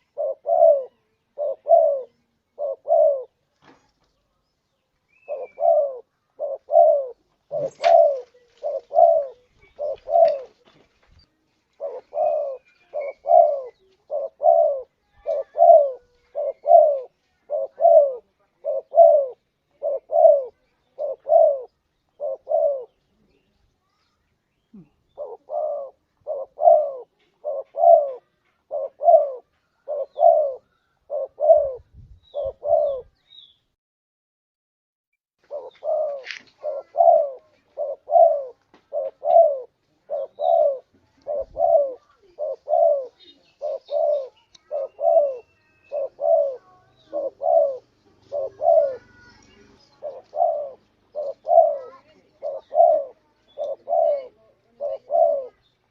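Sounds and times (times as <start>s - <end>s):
dove cooing: 0.0s - 3.4s, 5.1s - 10.8s, 11.7s - 23.5s, 24.7s - 33.2s, 35.4s - 55.9s.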